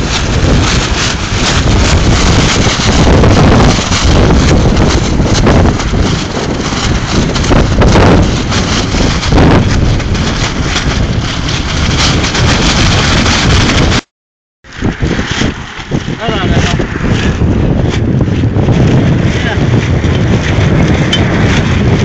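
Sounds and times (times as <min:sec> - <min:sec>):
gusting wind buffeting microphone: 0:00.0 - 0:22.0.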